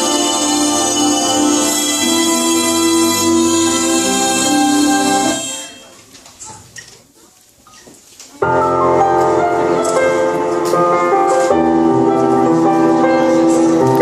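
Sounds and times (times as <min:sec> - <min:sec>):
piano tune: 0:00.0 - 0:06.1, 0:08.4 - 0:14.0.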